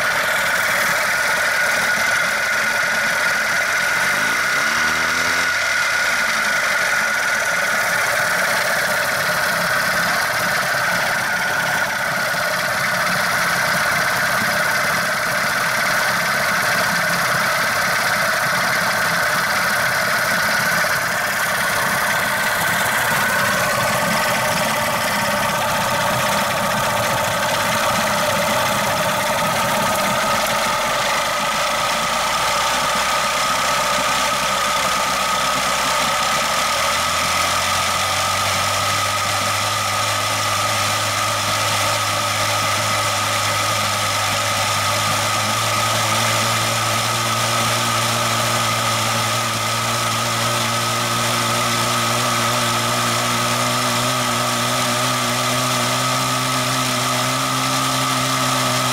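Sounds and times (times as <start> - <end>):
propeller throwing water: 0.0 - 54.1
outboard motor running: 0.0 - 58.9.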